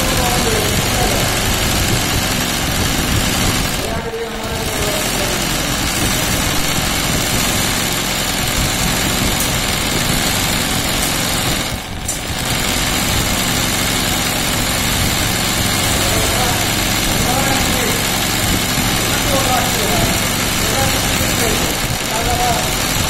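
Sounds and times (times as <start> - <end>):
sewing machine running: 0.0 - 23.0.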